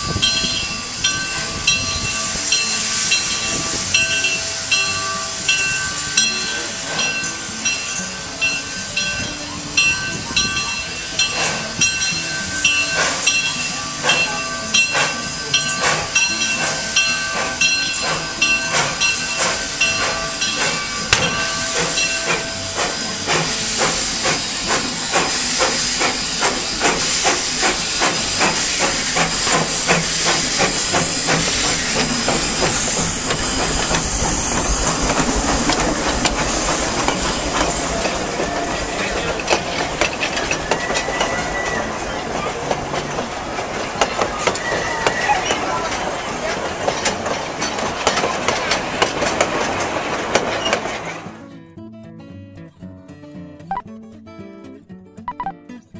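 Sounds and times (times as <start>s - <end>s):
hiss of steam: 0.0s - 51.3s
locomotive bell ringing: 0.0s - 51.3s
steam locomotive exhaust chuffs: 0.0s - 51.4s.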